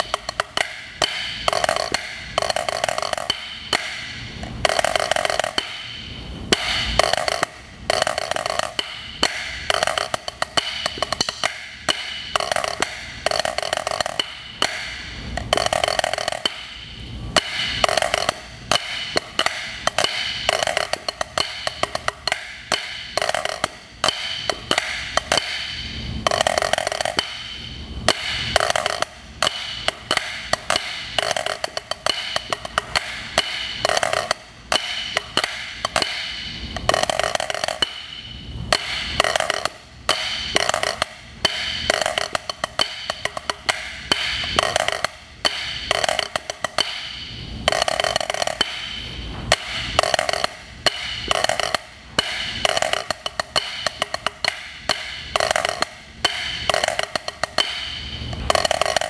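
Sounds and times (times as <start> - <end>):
drumsticks on practice pad: 0.0 - 59.0.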